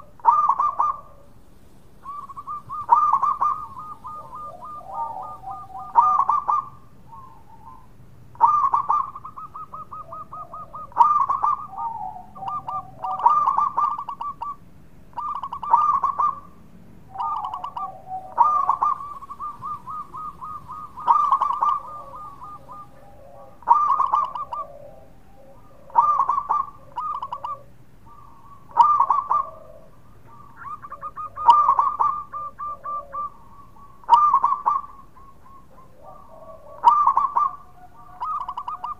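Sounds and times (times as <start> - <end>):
dove trilled cooing: 0.0 - 1.4, 2.0 - 38.9.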